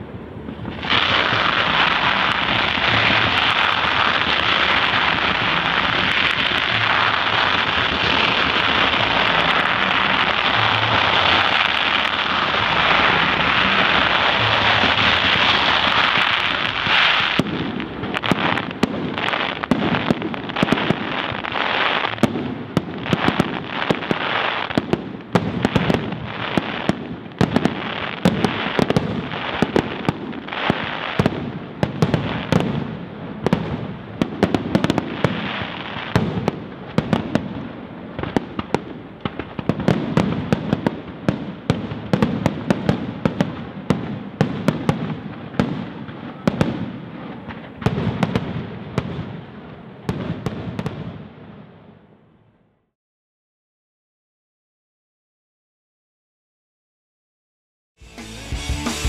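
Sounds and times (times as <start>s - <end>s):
fireworks bursting: 0.0s - 52.2s.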